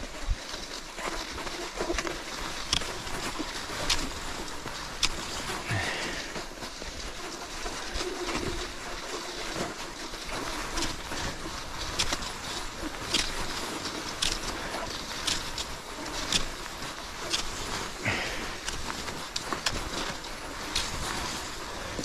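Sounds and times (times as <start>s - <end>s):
ski poles planting in snow: 0.0s - 22.0s
skis sliding in snow: 0.0s - 22.0s.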